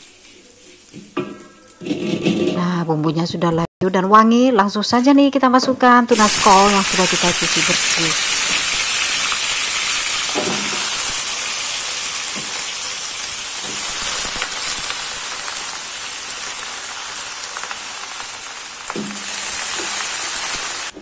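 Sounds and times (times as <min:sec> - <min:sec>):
oil sizzling in a wok: 0:00.0 - 0:02.5, 0:06.1 - 0:21.0.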